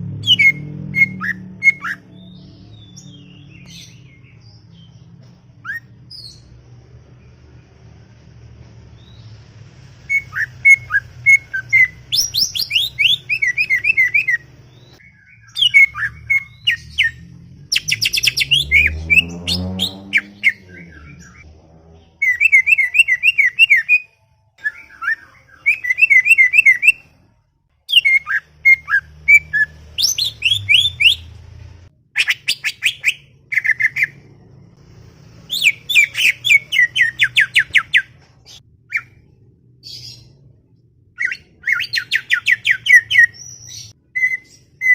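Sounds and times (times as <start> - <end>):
bird chirping and trilling: 0.0 - 6.6, 10.0 - 27.2, 27.9 - 31.4, 32.2 - 34.2, 35.5 - 40.5, 41.2 - 44.9.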